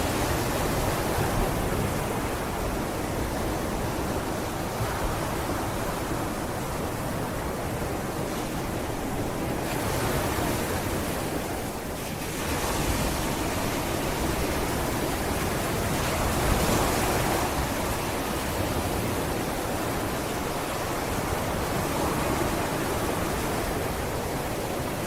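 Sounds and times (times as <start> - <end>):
sea waves breaking on beach: 0.0 - 25.0.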